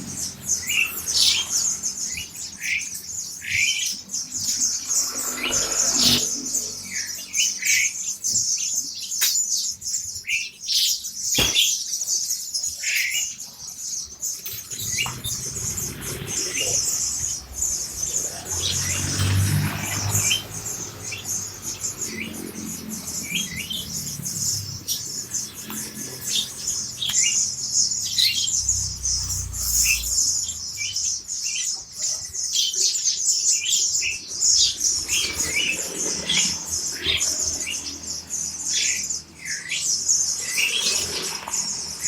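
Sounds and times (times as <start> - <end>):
birds chirping together: 0.0 - 42.0.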